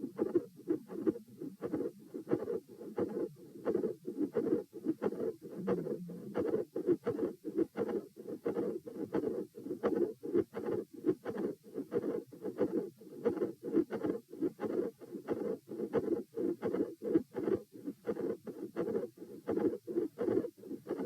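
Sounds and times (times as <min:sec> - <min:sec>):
heartbeat through stethoscope: 0:00.0 - 0:21.0.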